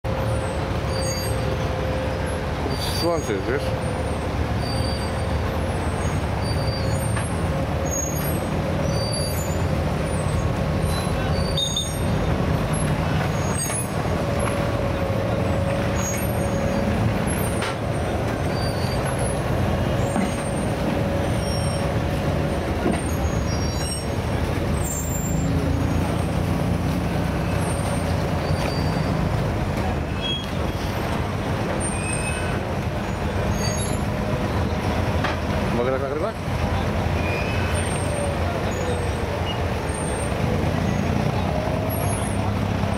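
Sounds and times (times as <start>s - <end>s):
boat diesel engines rumbling: 0.0s - 42.9s.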